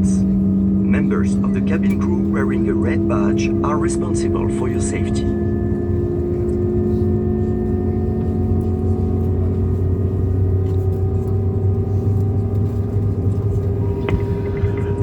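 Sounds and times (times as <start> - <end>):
aircraft cabin engine drone: 0.0 - 15.0.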